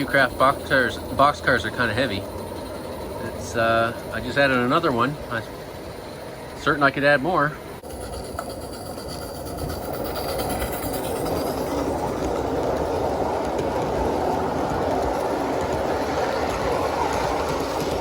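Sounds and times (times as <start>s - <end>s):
steam exhaust rushing: 0.0s - 18.0s
wheels running on track: 0.0s - 18.0s.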